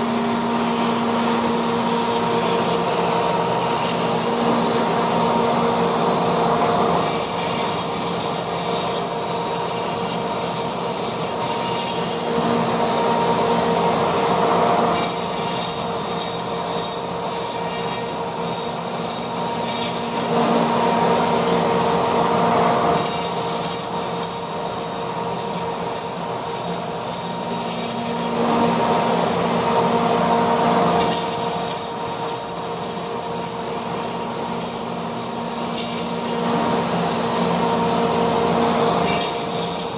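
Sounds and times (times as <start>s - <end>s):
cutting foam noise: 0.0s - 39.9s
router spindle whine: 0.0s - 39.9s.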